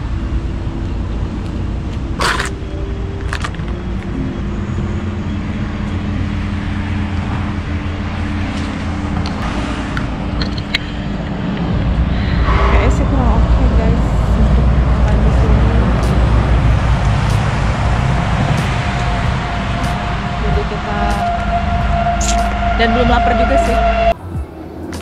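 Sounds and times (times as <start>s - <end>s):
road traffic rumble: 0.0s - 25.0s
wind buffeting microphone: 0.0s - 25.0s.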